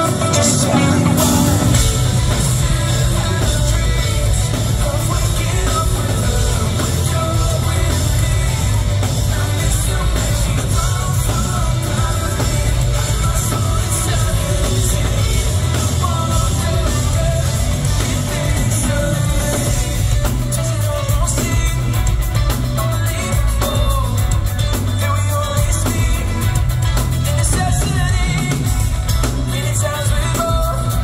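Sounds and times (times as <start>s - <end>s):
lead vocalist singing: 0.0s - 31.0s
live rock band: 0.0s - 31.0s.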